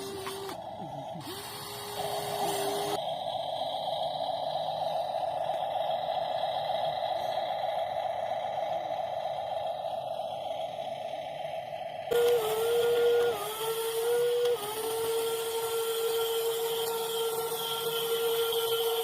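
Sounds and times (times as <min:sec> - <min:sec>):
electric motors whirring: 0:00.0 - 0:19.0
pitched motor whine: 0:00.0 - 0:19.0.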